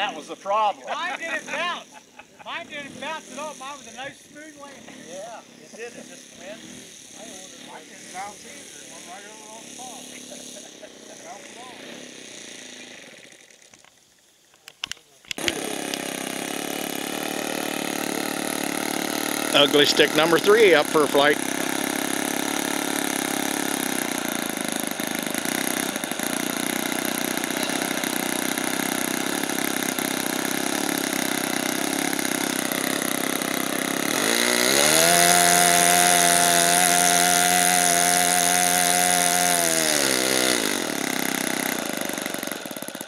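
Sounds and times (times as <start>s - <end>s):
model airplane engine running: 0.0s - 14.0s, 15.3s - 43.0s.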